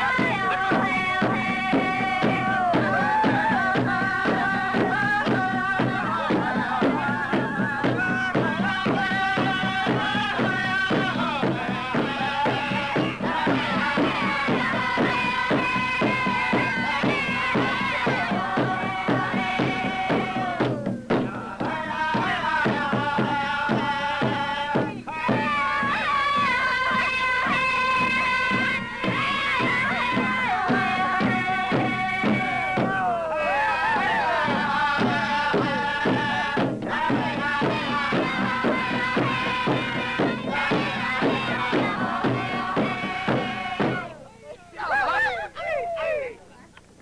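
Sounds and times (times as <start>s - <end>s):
group of singers: 0.0s - 46.4s
steady drumbeat: 0.0s - 46.4s.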